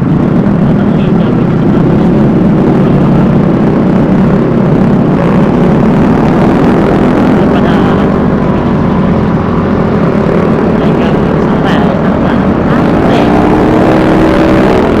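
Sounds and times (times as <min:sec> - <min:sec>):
loud wind on microphone: 0:00.0 - 0:15.0
road rush: 0:00.0 - 0:15.0
scooter engine running: 0:00.0 - 0:15.0.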